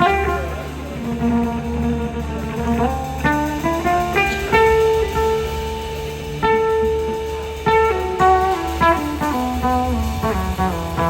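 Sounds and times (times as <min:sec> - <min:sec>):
bass line: 0:00.0 - 0:11.0
electric slide guitar solo: 0:00.0 - 0:11.0.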